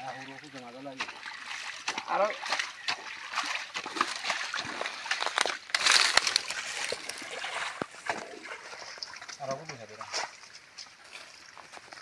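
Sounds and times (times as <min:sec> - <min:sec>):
hands splashing in muddy water: 0:00.2 - 0:12.0.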